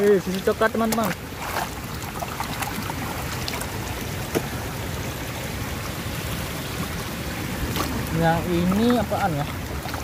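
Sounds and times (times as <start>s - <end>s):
stream water running: 0.0s - 10.0s.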